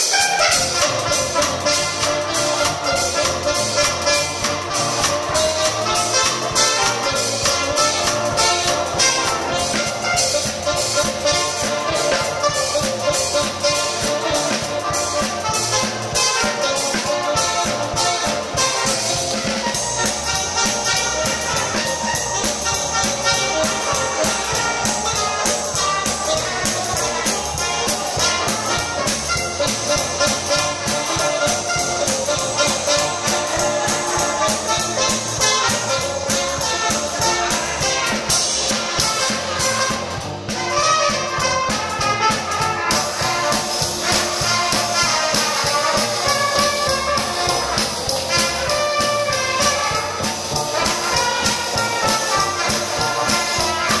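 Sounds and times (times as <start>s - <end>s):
drum and cymbal beat: 0.0s - 54.0s
swing band with brass: 0.0s - 54.0s.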